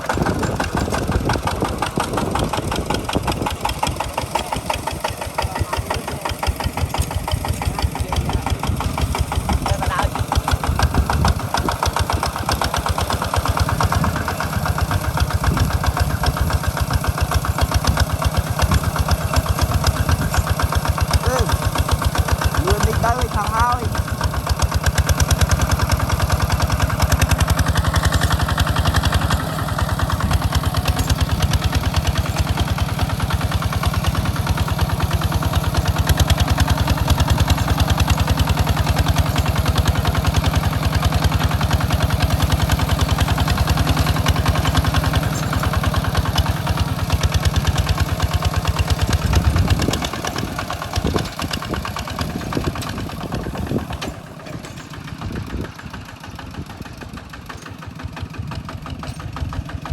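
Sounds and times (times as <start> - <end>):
single-cylinder engine chugging: 0.0 - 59.9.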